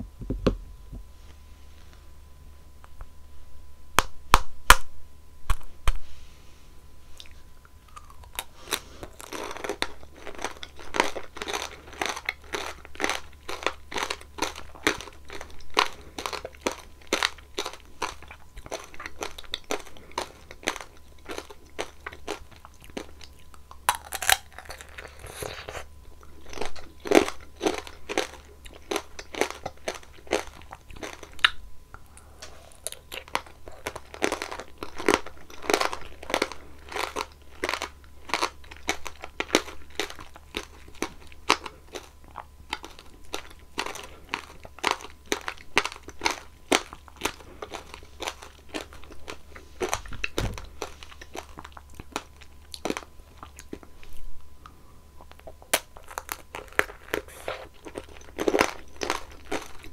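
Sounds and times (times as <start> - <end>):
strawberries being chewed: 7.1 - 59.9
candy shell crunching in mouth: 7.2 - 54.3, 55.2 - 59.9.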